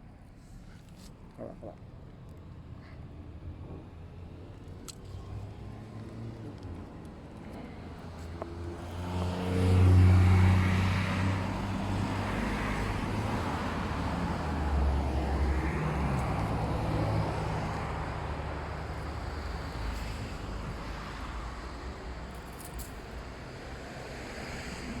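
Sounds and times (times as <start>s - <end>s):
motor vehicles passing: 1.6s - 25.0s.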